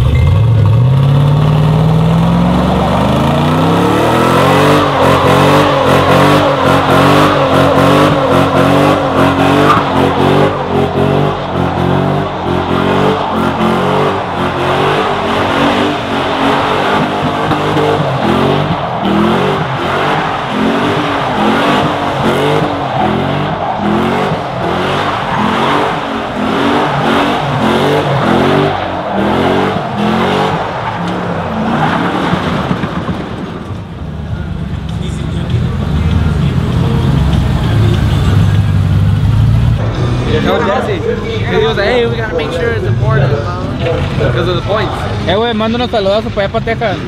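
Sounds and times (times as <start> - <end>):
tires screeching: 0.0 - 47.0
truck engine revving: 0.0 - 47.0.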